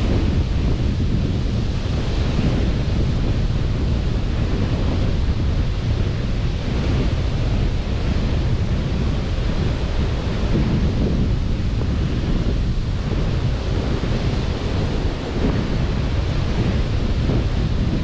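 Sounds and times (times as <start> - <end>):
sea surf: 0.0 - 18.0
wind: 0.0 - 18.0
wind buffeting microphone: 0.0 - 18.0.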